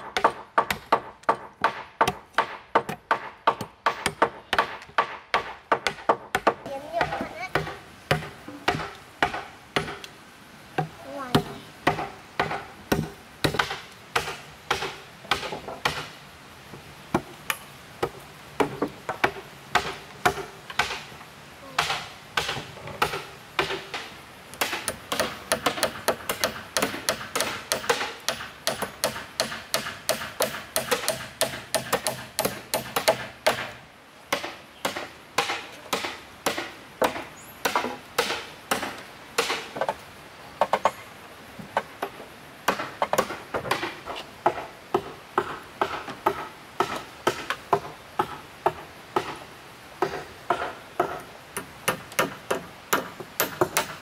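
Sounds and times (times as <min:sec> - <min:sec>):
hammering on bamboo: 0:00.0 - 0:16.2, 0:17.1 - 0:40.0, 0:41.7 - 0:54.0.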